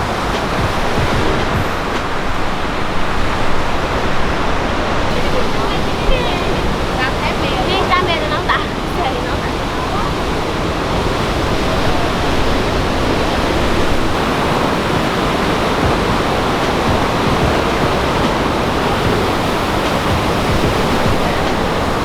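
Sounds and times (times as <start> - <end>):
waterfall pouring: 0.0 - 22.0.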